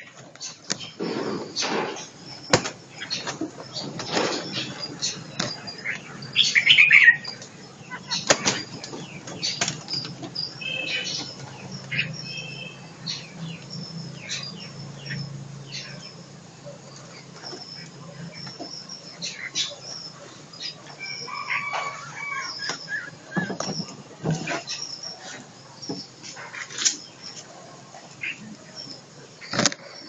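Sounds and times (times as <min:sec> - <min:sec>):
birds fluttering in cage: 0:00.0 - 0:28.4.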